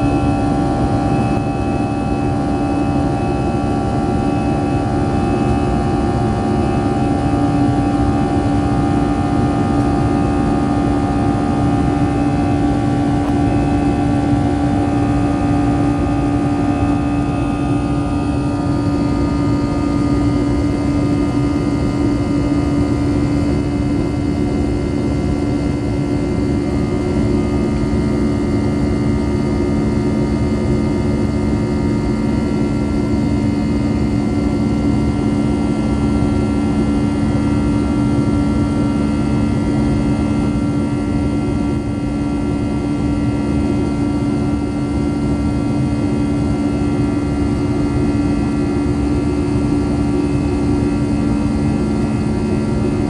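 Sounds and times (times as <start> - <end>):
jet engines droning in cabin: 0.0 - 53.0.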